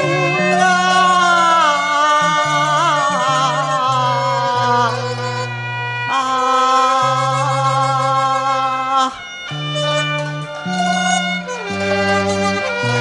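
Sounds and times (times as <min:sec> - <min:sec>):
opera band instrumental: 0:00.0 - 0:12.8.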